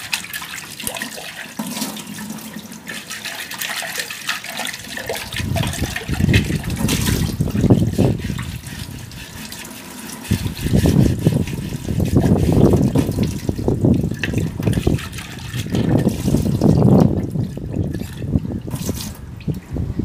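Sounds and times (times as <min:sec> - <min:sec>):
tap water splashing in sink: 0:00.0 - 0:19.6.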